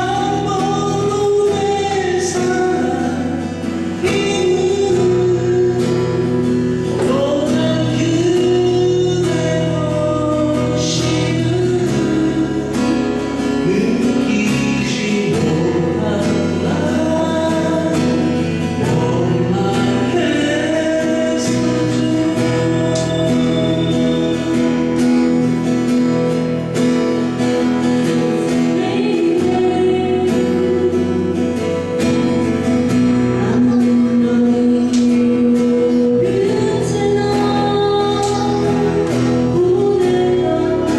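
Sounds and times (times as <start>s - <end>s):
person singing: 0.0s - 25.7s, 28.0s - 40.9s
guitar: 0.0s - 40.9s
steady bass line: 0.0s - 40.9s.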